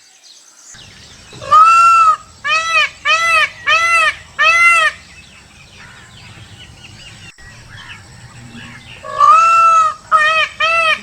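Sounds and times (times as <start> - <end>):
faint bird chirps: 0.0 - 11.0
peacock calling: 0.8 - 11.0.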